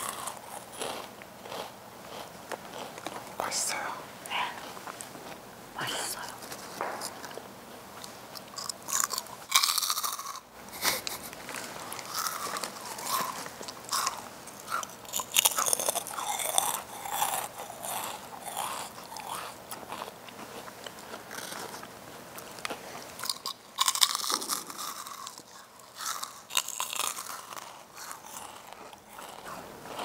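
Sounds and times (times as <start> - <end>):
crunchy chips being chewed: 0.0 - 5.4, 8.0 - 30.0.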